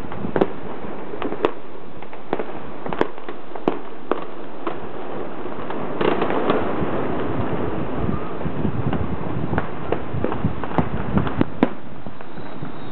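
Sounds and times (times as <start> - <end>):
distant fireworks bangs: 0.0 - 12.9
steady background hiss: 0.0 - 12.9.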